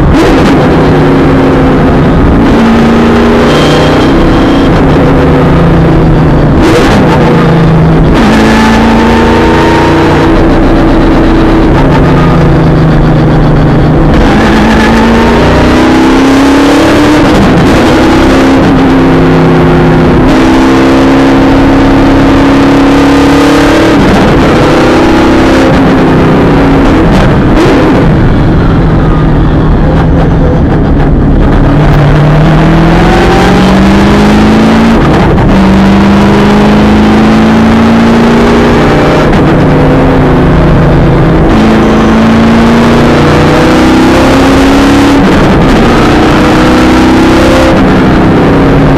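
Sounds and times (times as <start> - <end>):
racing car engine shifting gears: 0.0 - 48.9.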